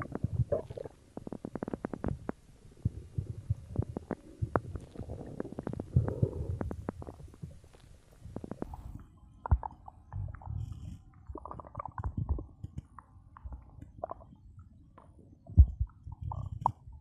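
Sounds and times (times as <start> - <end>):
stomach gurgling: 0.0 - 17.0.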